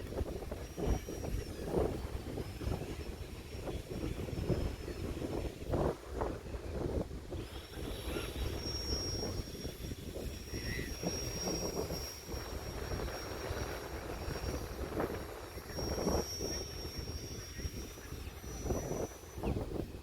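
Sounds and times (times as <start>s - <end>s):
faint high-pitched whine: 0.0s - 20.0s
wind rumbling on microphone: 0.0s - 20.0s.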